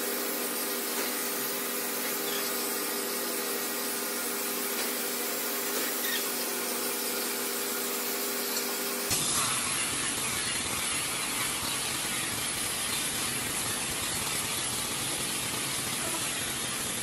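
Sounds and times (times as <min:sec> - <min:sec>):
power sander on wood: 0:00.0 - 0:17.0.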